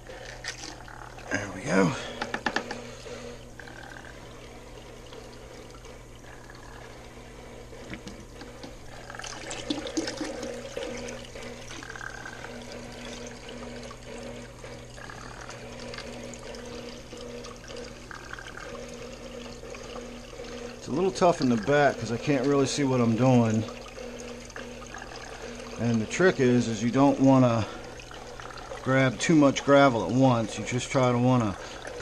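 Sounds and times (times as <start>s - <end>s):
water splashing into bucket: 0.0s - 7.0s, 7.7s - 32.0s.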